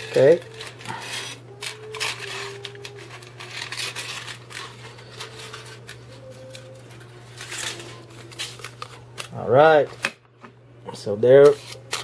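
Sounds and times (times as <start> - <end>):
foil crinkling: 0.0 - 9.9, 11.4 - 12.0
scissors snipping foil: 0.0 - 10.1, 11.3 - 12.0.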